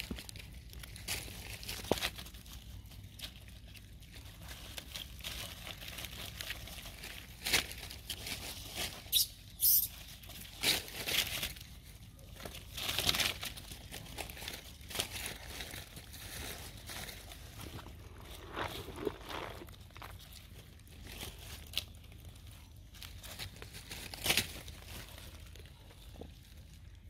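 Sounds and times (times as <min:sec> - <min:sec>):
dry leaves crunching underfoot: 0:00.0 - 0:27.0.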